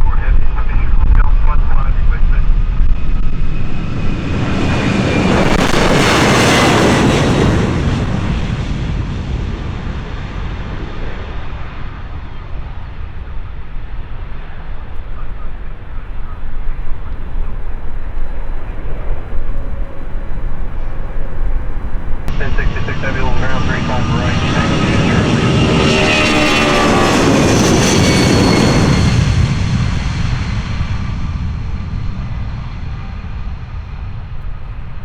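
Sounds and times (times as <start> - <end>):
jet airliner engines passing: 0.0 - 35.0.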